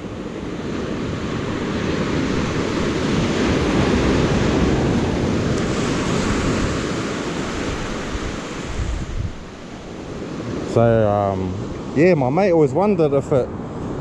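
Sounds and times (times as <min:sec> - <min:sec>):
surf breaking on beach: 0:00.0 - 0:14.0.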